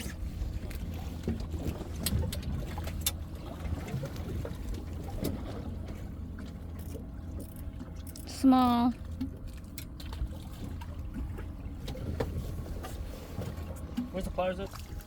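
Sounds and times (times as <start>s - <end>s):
low rumble with faint hum: 0.0s - 15.0s.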